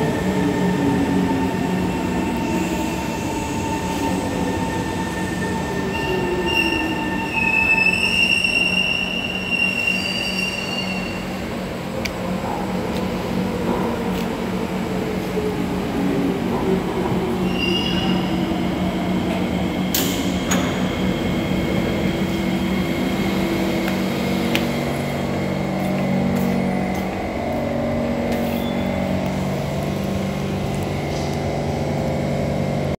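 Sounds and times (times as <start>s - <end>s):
metro train electric hum: 0.0s - 33.0s.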